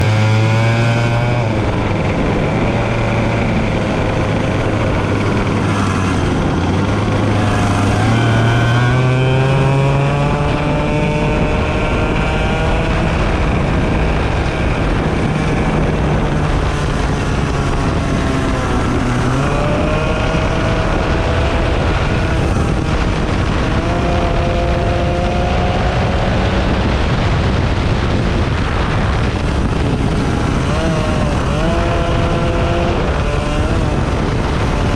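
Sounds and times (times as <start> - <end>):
racing engines accelerating: 0.0 - 34.9.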